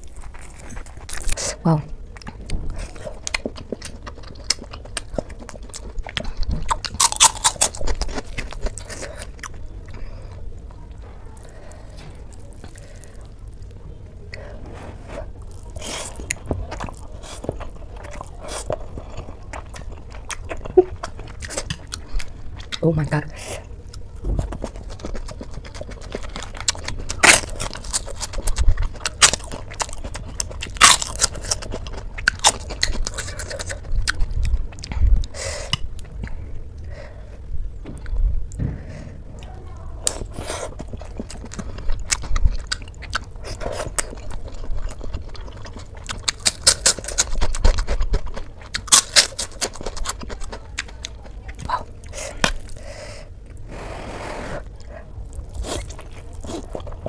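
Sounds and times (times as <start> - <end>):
food crunching: 0.0 - 14.6, 15.2 - 38.6, 39.4 - 53.7, 54.6 - 57.0
person chewing food: 0.0 - 57.0.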